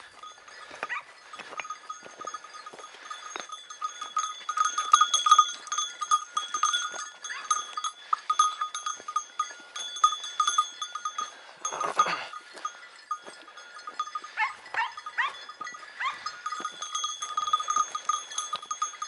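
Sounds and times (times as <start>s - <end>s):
small metal bell jingling: 0.0s - 19.0s.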